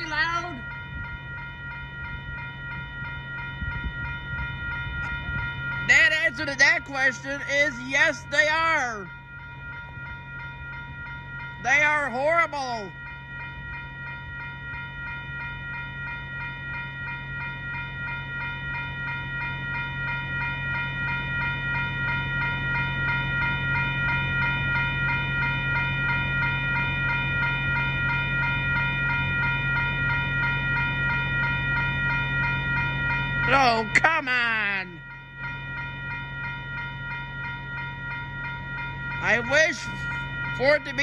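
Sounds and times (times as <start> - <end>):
railroad crossing bells ringing: 0.0 - 41.0.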